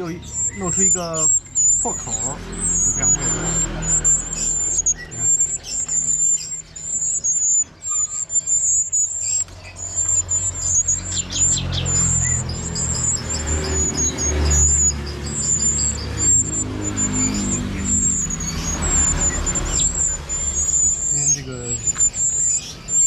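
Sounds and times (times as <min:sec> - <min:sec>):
low vehicle rumble: 0:00.0 - 0:23.0
songbirds chirping: 0:00.0 - 0:23.0.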